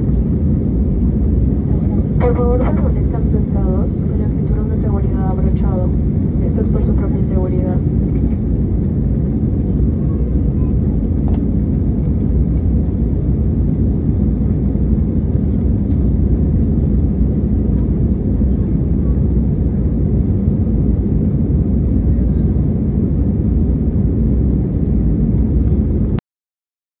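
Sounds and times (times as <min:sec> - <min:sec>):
airliner cabin engine rumble: 0:00.0 - 0:26.2.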